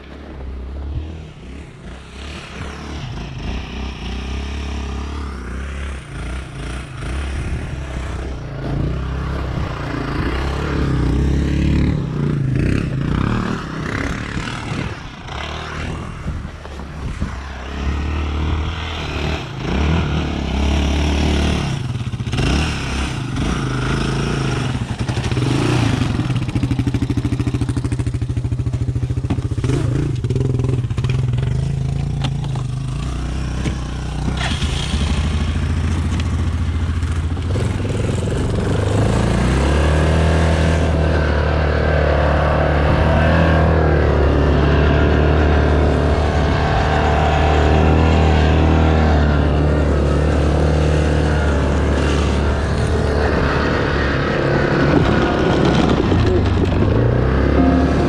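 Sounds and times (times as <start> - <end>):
atv engine running: 0.0 - 58.0
quad engine revving: 1.0 - 58.0.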